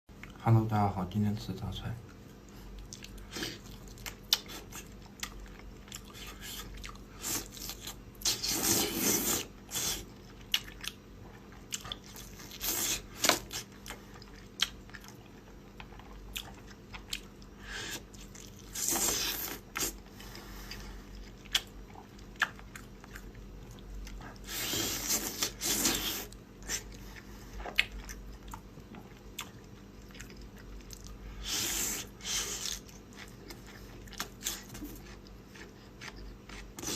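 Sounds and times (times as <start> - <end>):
chewing and crunching: 2.1 - 36.9.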